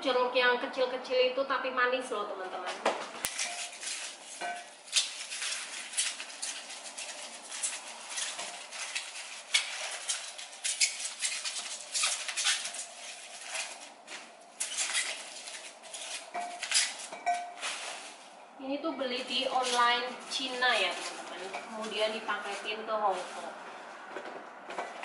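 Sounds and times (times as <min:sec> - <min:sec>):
plastic packaging crinkling: 0:03.0 - 0:24.1.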